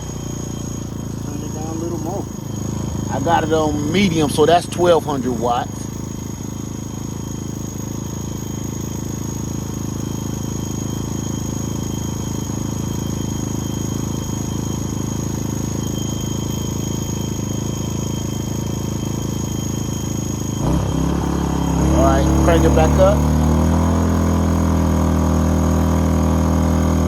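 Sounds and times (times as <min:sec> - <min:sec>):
generator engine running: 0:00.0 - 0:27.0.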